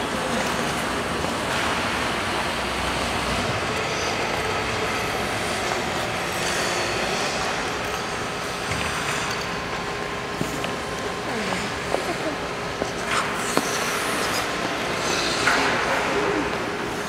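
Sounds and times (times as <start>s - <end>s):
indoor ice rink background noise: 0.0s - 17.0s.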